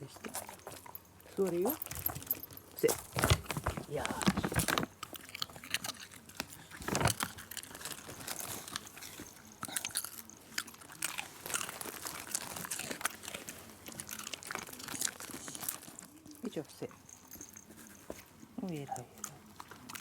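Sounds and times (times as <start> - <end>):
dog crunching a hard treat: 0.0 - 20.0.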